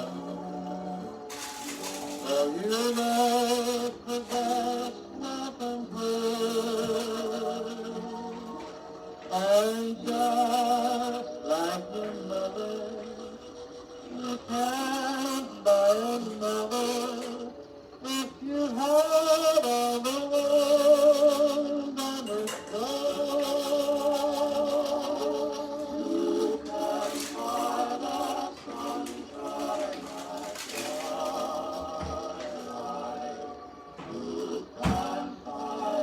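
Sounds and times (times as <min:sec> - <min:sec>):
phonograph record of singer: 0:00.0 - 0:36.0.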